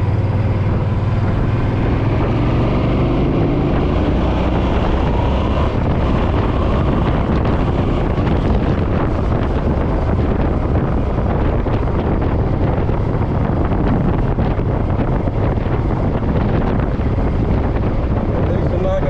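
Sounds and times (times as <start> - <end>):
motorcycle engine cruising: 0.0 - 19.0
wind rush on microphone: 0.0 - 19.0.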